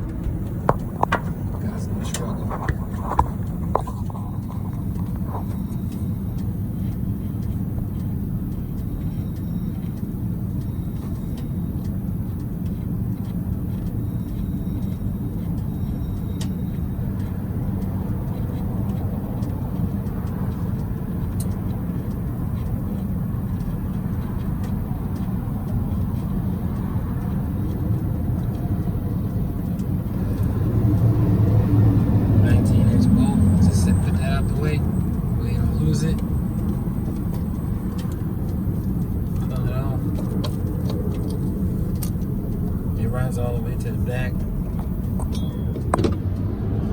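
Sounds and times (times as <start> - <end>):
vehicle engine rumbling: 0.0 - 46.9.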